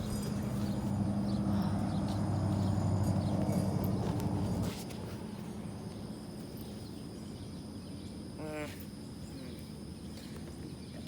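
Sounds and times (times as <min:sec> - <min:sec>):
faint high insect drone: 0:00.0 - 0:11.0.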